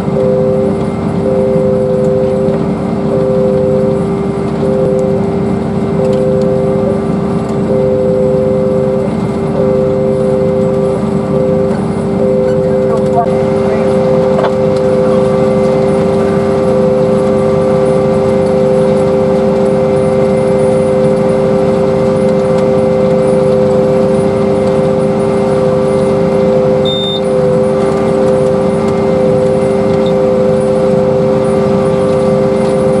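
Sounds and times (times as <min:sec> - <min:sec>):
harvesting machine humming: 0:00.0 - 0:33.0
steady mid-pitched whine: 0:00.0 - 0:33.0.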